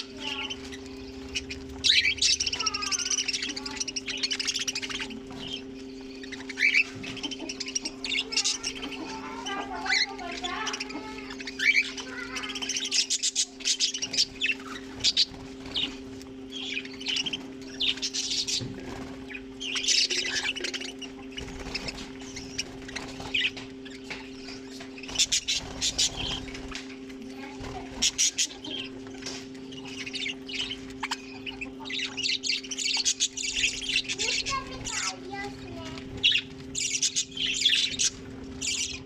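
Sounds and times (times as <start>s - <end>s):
parakeets chirping and squawking: 0.0s - 39.0s
steady low hum: 0.0s - 39.0s.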